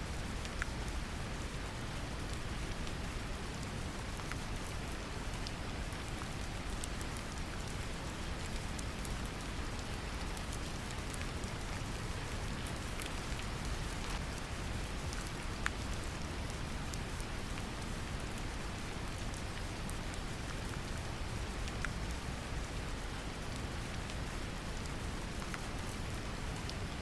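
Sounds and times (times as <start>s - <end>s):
gentle rain: 0.0s - 27.0s.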